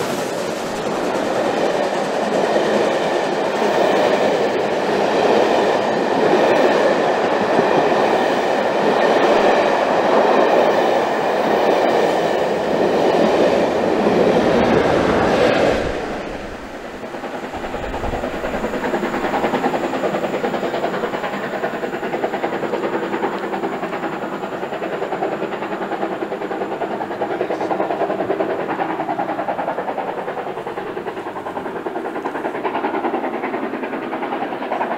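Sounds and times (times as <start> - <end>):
steam train running on rails: 0.0 - 34.9.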